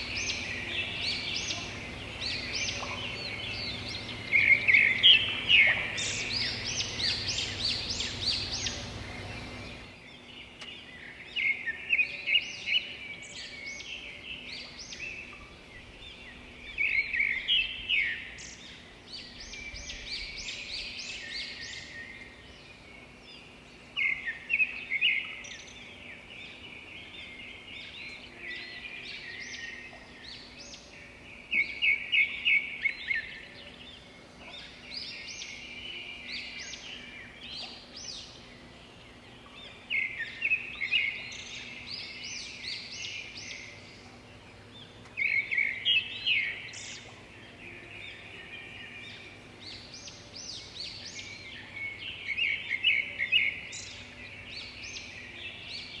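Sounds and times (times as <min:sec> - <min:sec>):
birds singing in woodland: 0:00.0 - 0:56.0.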